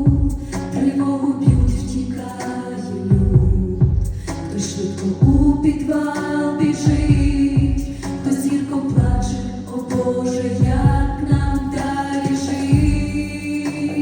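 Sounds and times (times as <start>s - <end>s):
backing track with low drum beats: 0.0s - 14.0s.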